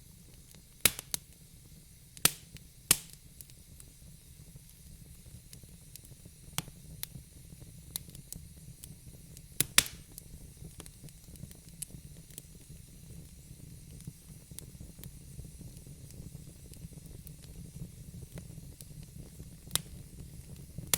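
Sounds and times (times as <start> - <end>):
wood fire crackling and popping: 0.1 - 20.9.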